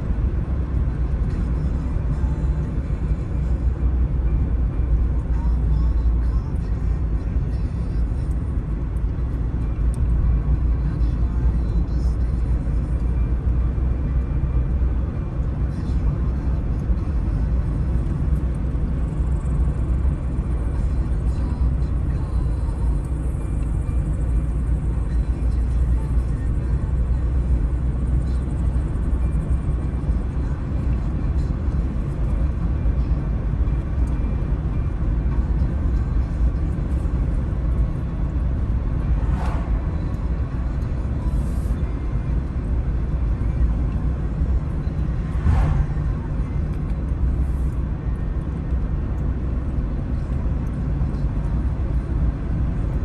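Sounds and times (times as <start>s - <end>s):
car driving on road: 0.0s - 53.0s.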